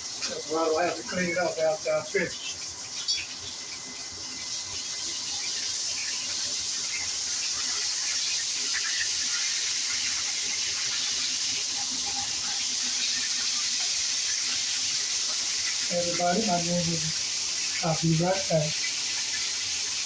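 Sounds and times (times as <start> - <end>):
fish sizzling in grease: 0.0 - 20.0.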